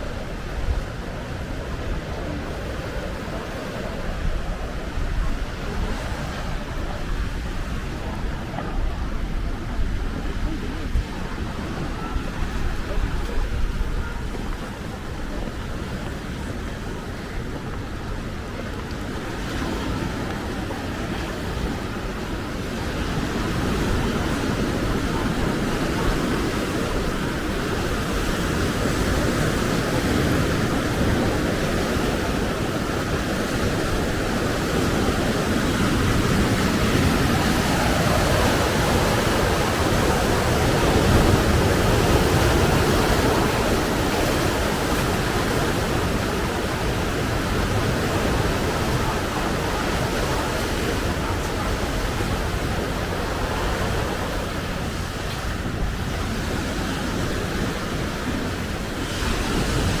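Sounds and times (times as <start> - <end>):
strong wind on microphone: 0.0 - 60.0.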